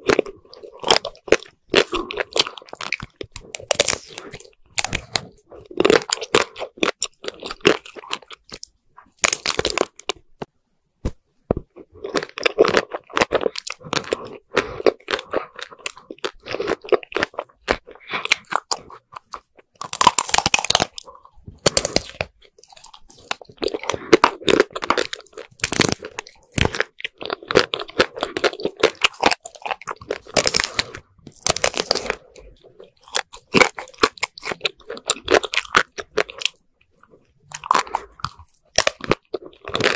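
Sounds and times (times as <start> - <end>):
chewing: 0.0 - 10.5, 11.5 - 39.9
chocolate coating crunching: 0.0 - 10.5, 11.5 - 39.9.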